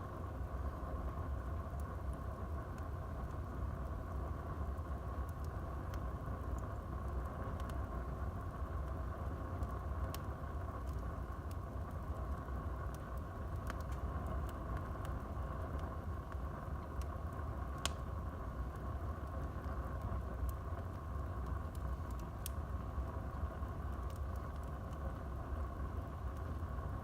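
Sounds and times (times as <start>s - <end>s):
fire rumbling and hissing: 0.0s - 27.0s
wood fire crackling and popping: 0.0s - 27.0s.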